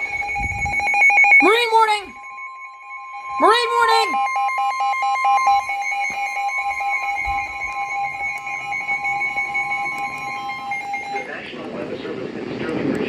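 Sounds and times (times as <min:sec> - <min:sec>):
fast on-off beeping: 0:00.0 - 0:11.4
long steady alarm tones: 0:00.0 - 0:12.6.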